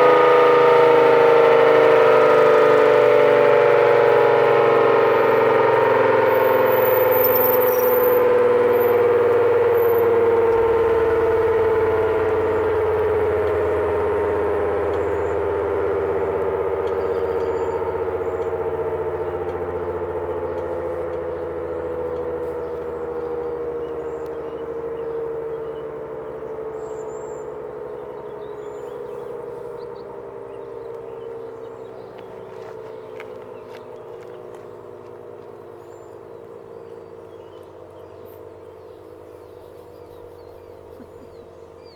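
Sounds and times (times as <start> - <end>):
warning siren winding down: 0.0 - 41.9.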